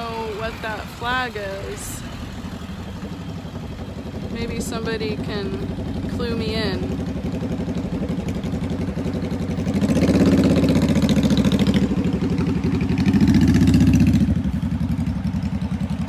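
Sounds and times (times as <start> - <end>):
cars and trucks passing: 0.0 - 16.0.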